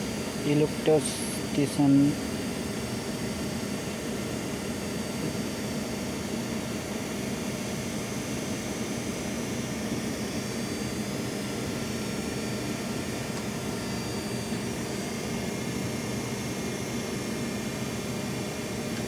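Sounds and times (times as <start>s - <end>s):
machinery humming and hissing: 0.0s - 19.0s.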